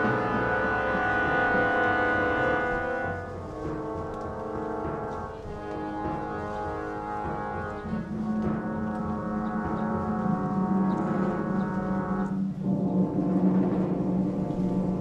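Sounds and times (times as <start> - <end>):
low orchestral chords: 0.0 - 15.0
orchestral percussion: 0.0 - 15.0.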